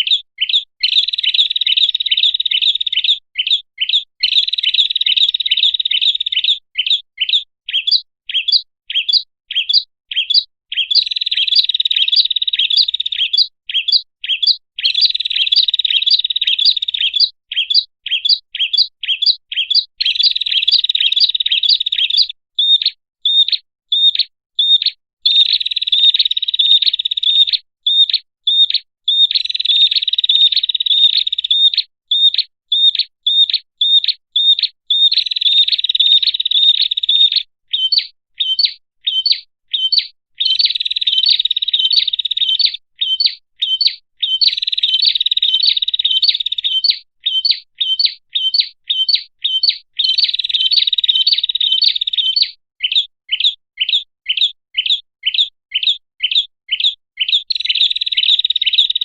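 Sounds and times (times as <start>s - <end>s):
bird chattering trills: 0.0s - 59.0s
sharp bird chirps: 0.0s - 59.0s.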